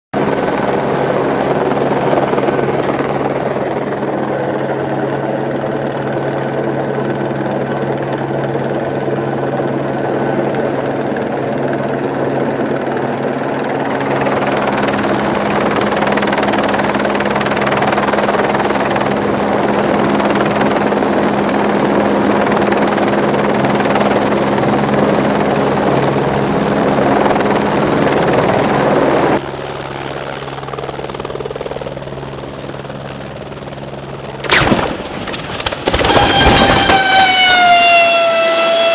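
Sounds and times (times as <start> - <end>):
helicopter hovering overhead: 0.1 - 38.9.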